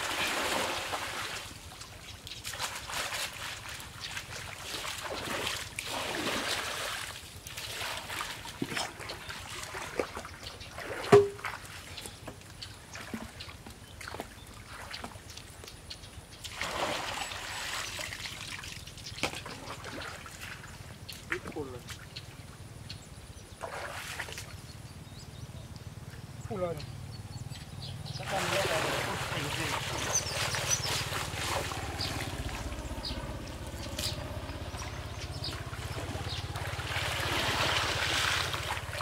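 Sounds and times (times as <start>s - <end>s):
pond water splashing and sloshing: 0.0s - 39.0s.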